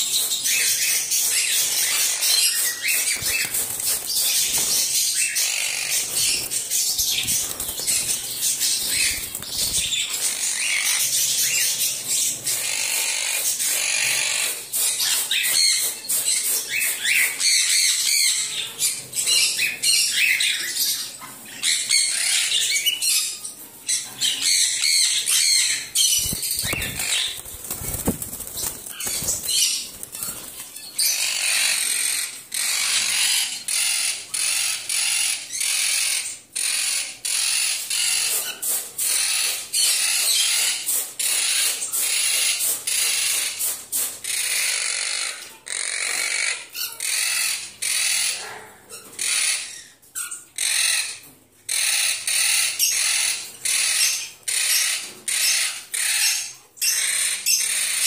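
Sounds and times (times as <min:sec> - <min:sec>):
parakeets chattering: 0:00.0 - 0:58.0.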